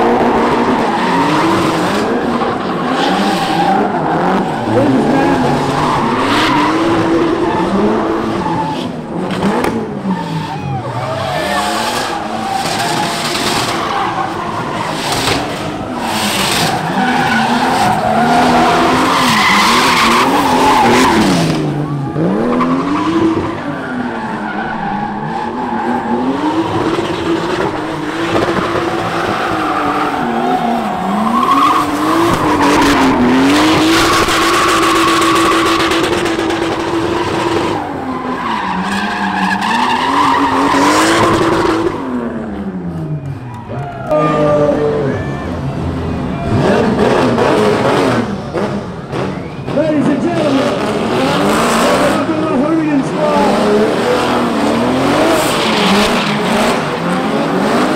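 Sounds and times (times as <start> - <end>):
car engines revving high: 0.0 - 57.9.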